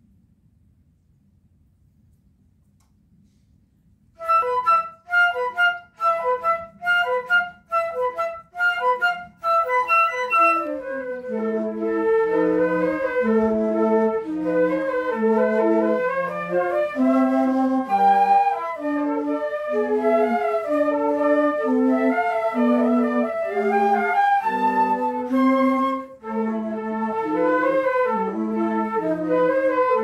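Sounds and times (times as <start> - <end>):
flute ensemble playing: 4.2 - 30.0.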